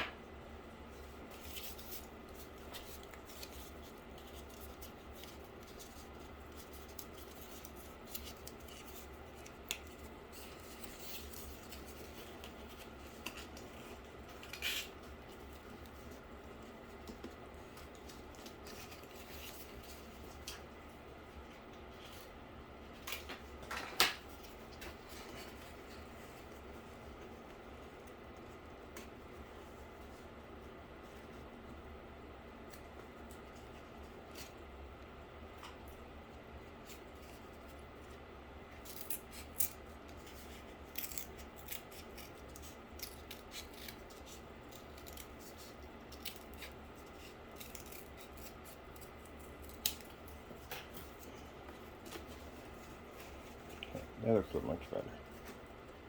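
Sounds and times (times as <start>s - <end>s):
faint room hum: 0.0s - 56.0s.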